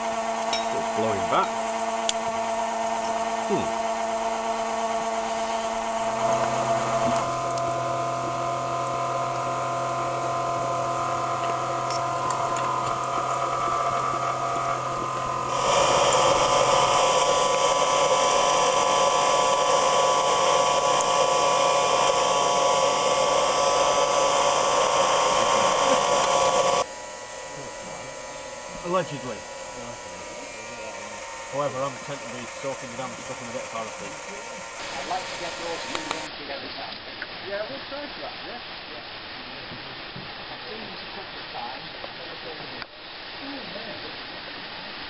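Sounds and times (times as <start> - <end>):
electric blower whirring: 0.0 - 36.3.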